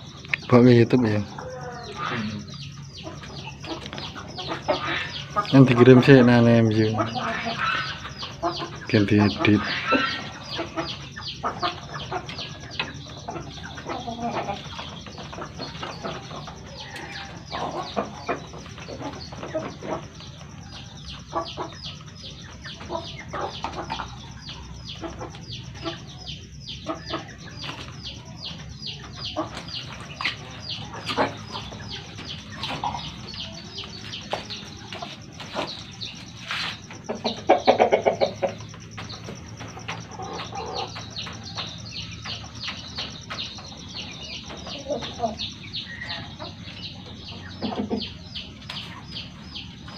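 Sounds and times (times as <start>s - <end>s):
chickens clucking: 0.0s - 49.9s.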